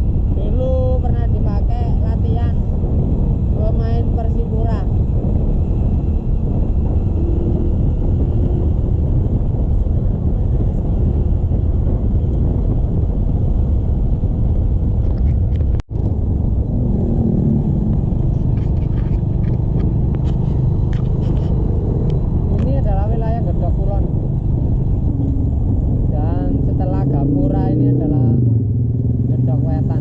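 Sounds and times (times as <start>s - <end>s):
motorcycle rumbling: 0.0s - 30.0s.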